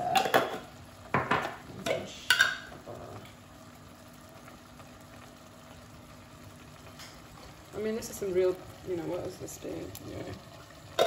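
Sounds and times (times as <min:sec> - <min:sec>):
sauce simmering in a pot: 0:00.0 - 0:11.0.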